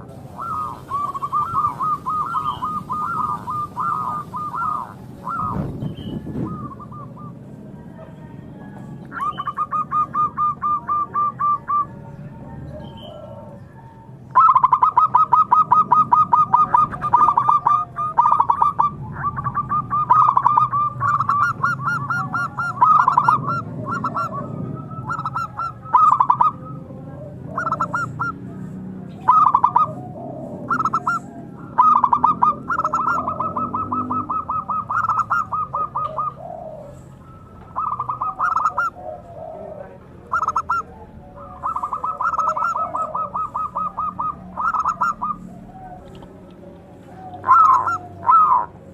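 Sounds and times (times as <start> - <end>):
dove cooing in stuttering trains: 0.0 - 48.9.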